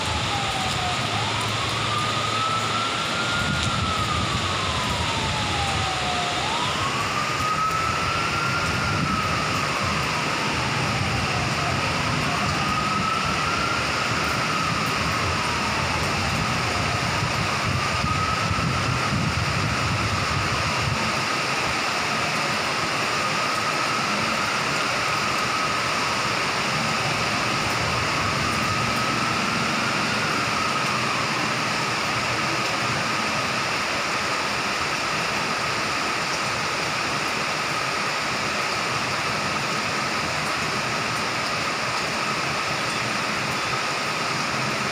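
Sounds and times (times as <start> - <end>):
distant siren wailing: 0.0 - 44.9
heavy rain pouring: 0.0 - 44.9.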